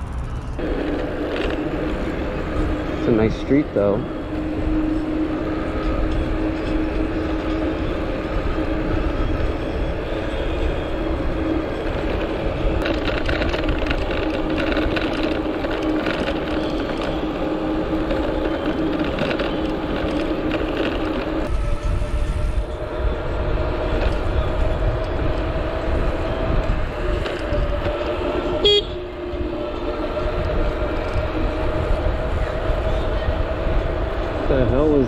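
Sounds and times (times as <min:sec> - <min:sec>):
electric hub motor whine: 0:00.0 - 0:35.0
tyres rattling over pavement: 0:00.0 - 0:35.0
wind rushing over microphone: 0:00.0 - 0:35.0.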